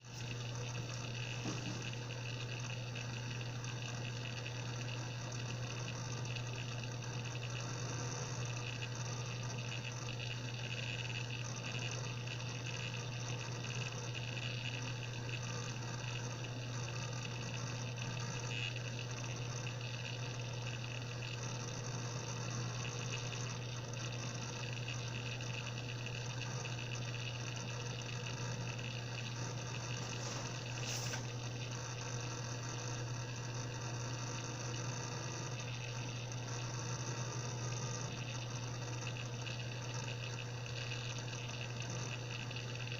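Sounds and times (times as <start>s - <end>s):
hard drive humming and whirring: 0.0s - 42.9s.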